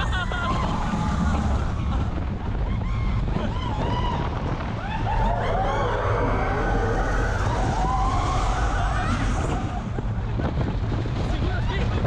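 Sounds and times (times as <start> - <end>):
riders screaming and whooping: 0.0 - 10.7
roller coaster rumbling on track: 0.0 - 12.0
wind on microphone: 0.0 - 12.0.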